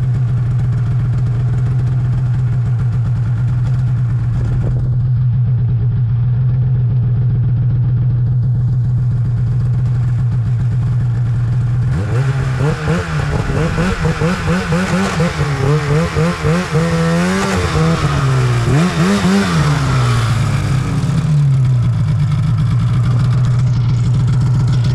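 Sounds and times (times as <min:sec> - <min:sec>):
snowmobile engine idling and revving: 0:00.0 - 0:24.9.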